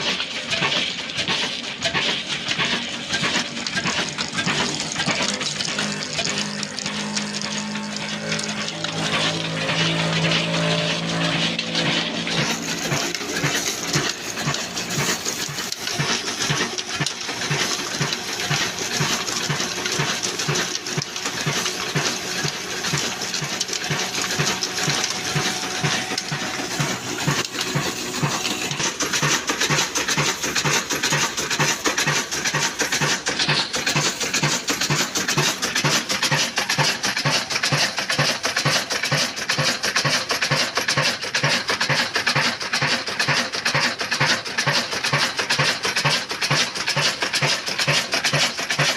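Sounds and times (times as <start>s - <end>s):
diesel engine running slowly: 0.0s - 48.9s
flour mill grinding: 0.0s - 48.9s.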